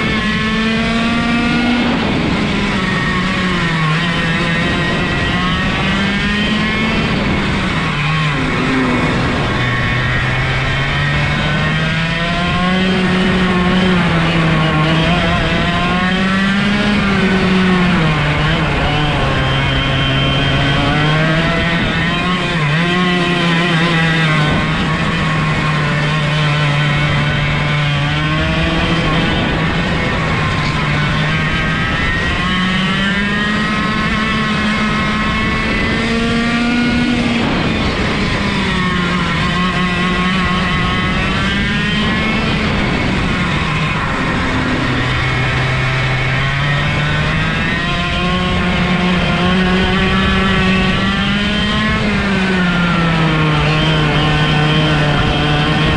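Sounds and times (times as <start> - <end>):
go-kart engine revving: 0.0 - 55.9.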